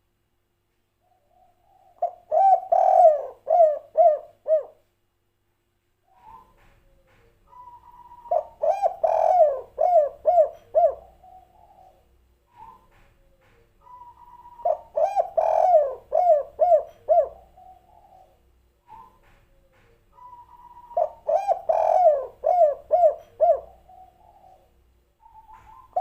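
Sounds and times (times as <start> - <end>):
dove cooing: 1.0 - 4.9, 6.1 - 26.0.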